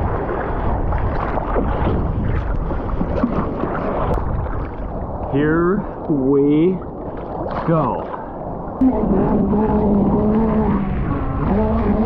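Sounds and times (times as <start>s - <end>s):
water splashing and sloshing: 0.0s - 12.0s
wind buffeting microphone: 0.0s - 12.0s.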